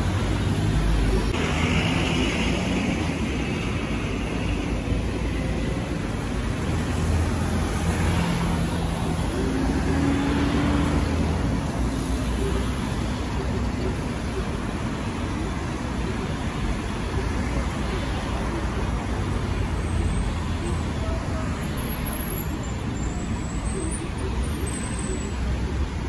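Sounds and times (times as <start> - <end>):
city traffic: 0.0 - 26.0.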